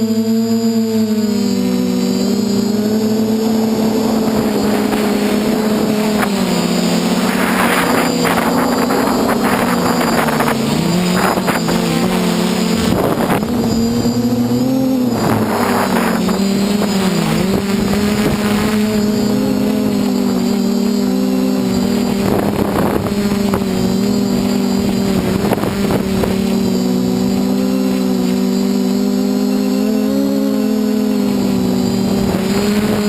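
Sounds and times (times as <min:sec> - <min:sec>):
drone motors humming: 0:00.0 - 0:33.0
wind noise rushes: 0:01.2 - 0:27.5, 0:31.3 - 0:33.0.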